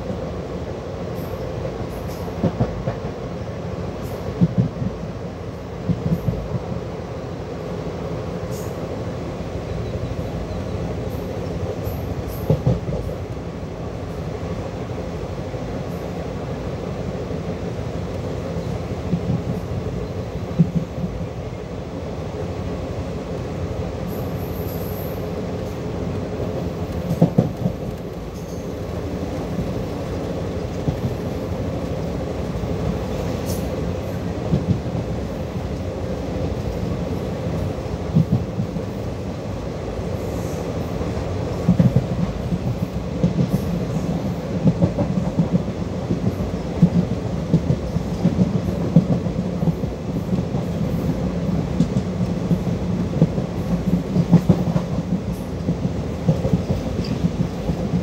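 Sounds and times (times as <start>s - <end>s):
train clicks and knocks: 0.0s - 0.3s, 1.1s - 6.9s, 9.6s - 14.9s, 15.6s - 21.7s, 22.4s - 58.0s
train wheels rumbling on rails: 0.0s - 58.0s.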